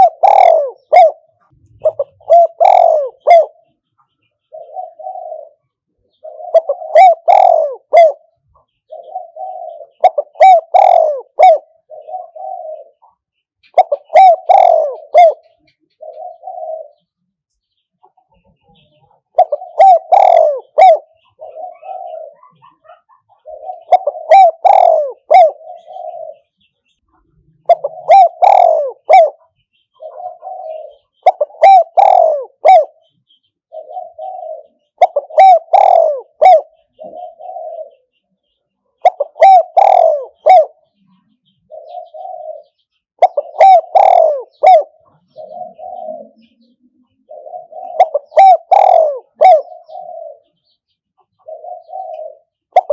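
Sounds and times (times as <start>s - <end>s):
dove decoy cooing: 0.0s - 3.7s, 4.4s - 17.1s, 18.0s - 26.6s, 27.5s - 33.1s, 33.7s - 38.2s, 39.0s - 52.9s.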